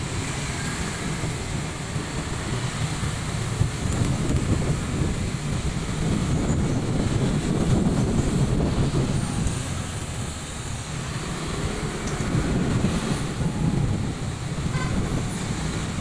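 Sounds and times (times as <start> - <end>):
vehicle engine and tyre noise: 0.0 - 16.0
wind buffeting microphone: 0.0 - 16.0.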